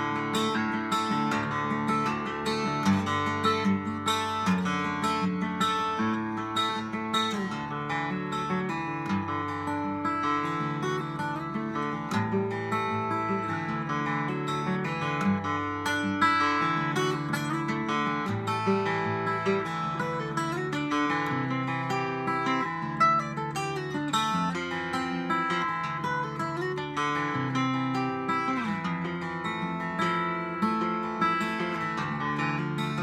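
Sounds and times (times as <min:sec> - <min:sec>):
fingerstyle acoustic guitar: 0:00.0 - 0:33.0.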